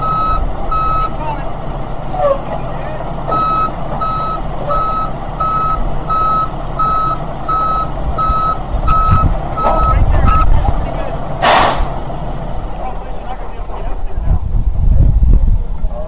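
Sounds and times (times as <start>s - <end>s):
truck reversing alarm beeping: 0.0s - 13.8s
truck engine rumbling: 0.0s - 16.0s.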